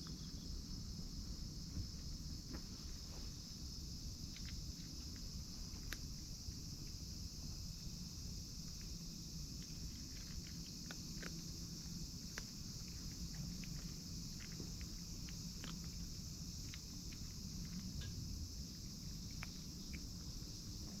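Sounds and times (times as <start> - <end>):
insects chirring: 0.0 - 21.0
small ticks and clicks: 3.6 - 21.0.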